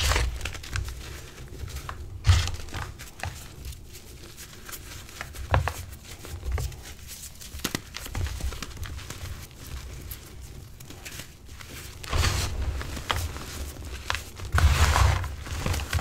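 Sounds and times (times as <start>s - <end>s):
hands crumbling chalk: 0.0s - 16.0s.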